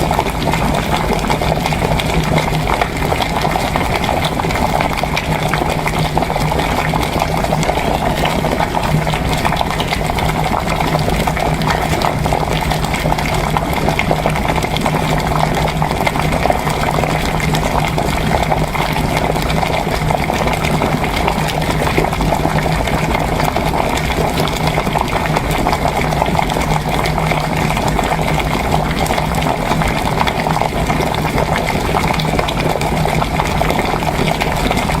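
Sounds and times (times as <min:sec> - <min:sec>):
water boiling and bubbling: 0:00.0 - 0:35.0.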